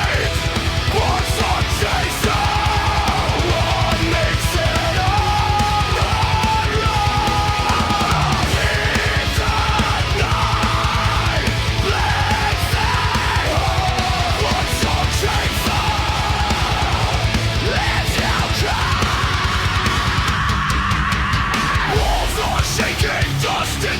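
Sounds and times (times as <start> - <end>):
electric guitars: 0.0 - 23.9
fast driving drums: 0.0 - 23.9.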